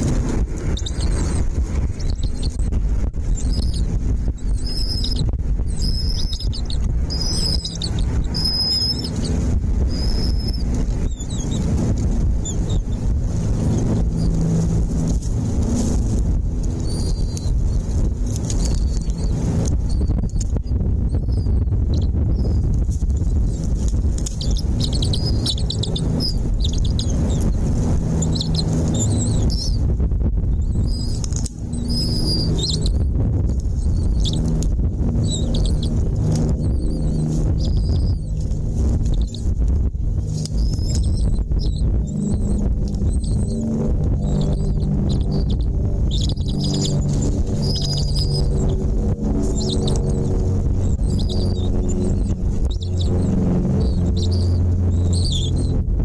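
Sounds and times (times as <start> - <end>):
small birds chirping: 0.0 - 55.8
steady low rumble: 0.0 - 56.0.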